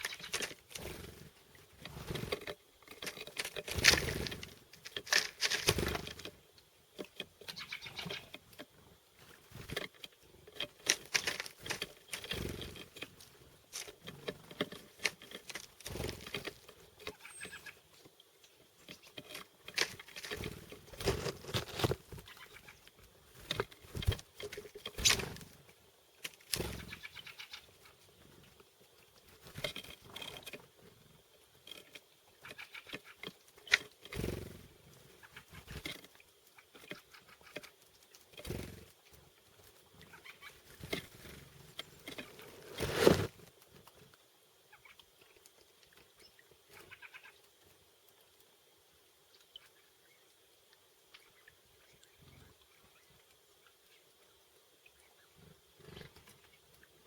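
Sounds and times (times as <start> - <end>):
birds pecking at seeds: 0.0 - 48.6.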